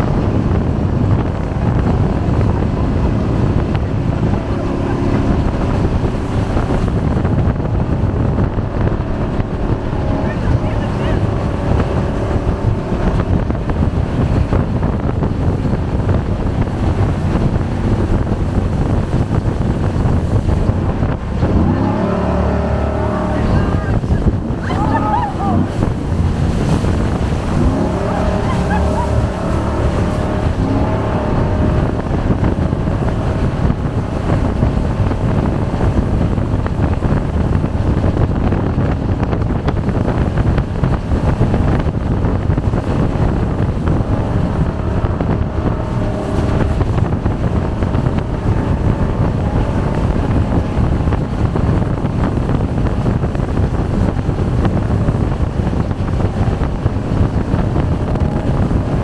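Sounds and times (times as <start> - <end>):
jet boat engine: 0.0 - 59.0
rushing water: 0.0 - 59.0
wind buffeting microphone: 0.0 - 59.0.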